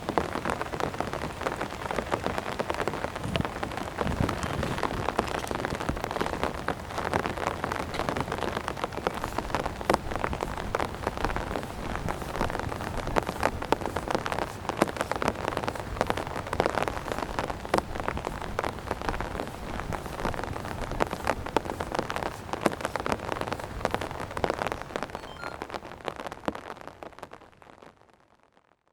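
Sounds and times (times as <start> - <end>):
raindrops splashing close by: 0.0 - 28.2
heavy rain falling: 0.0 - 28.3.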